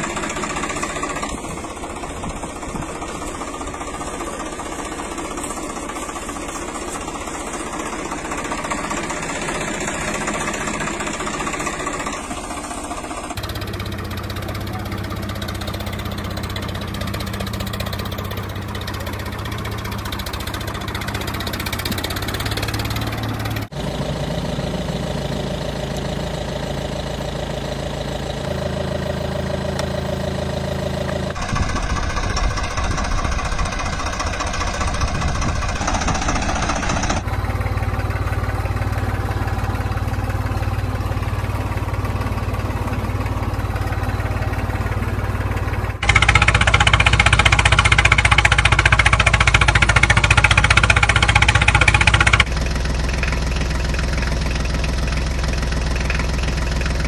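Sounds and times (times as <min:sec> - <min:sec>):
engines idling with knocking beat: 0:00.0 - 0:57.0.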